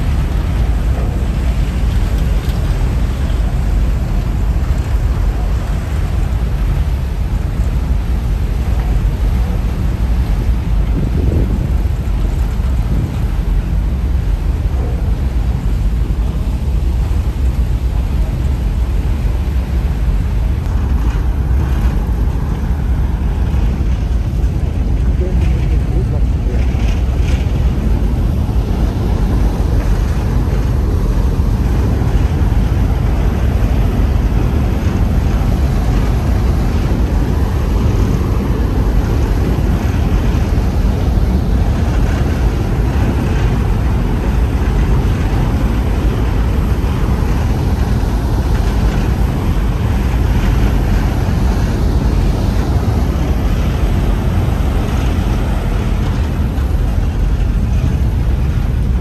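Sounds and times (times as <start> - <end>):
churning wake: 0.0 - 59.0
ferry engines rumbling: 0.0 - 59.0
wind on microphone: 0.0 - 59.0.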